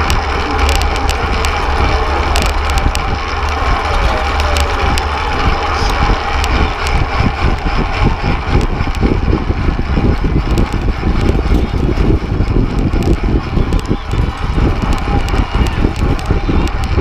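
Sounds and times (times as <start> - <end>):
sharp ticks: 0.0 - 17.0
wind buffeting microphone: 0.0 - 17.0.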